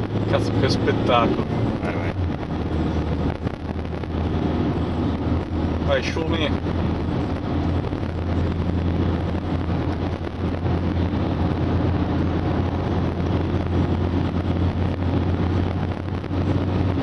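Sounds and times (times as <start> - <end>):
road and wind noise: 0.0 - 17.0
van engine drone: 0.0 - 17.0.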